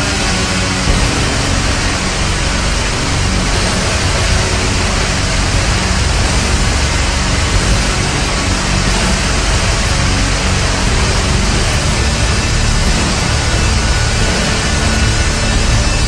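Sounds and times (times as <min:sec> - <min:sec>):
distorted noisy music: 0:00.0 - 0:16.0.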